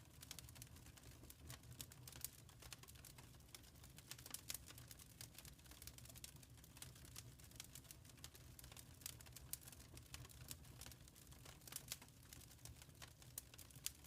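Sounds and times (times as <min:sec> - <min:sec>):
wood fire crackling quietly: 0:00.0 - 0:14.0.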